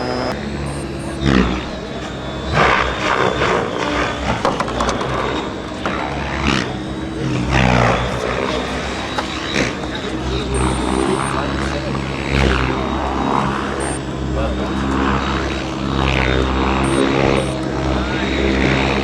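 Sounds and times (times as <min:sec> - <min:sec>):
electric motor whine: 0:00.0 - 0:19.0
rotor noise: 0:00.0 - 0:19.0.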